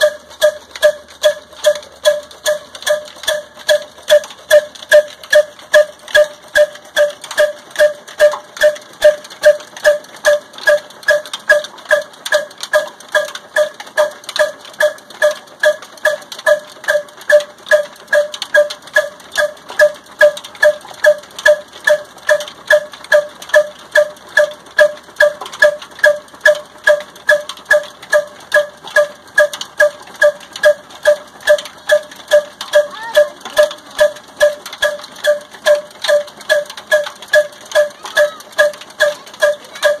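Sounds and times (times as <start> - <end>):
single-cylinder diesel engine running: 0.0 - 40.0.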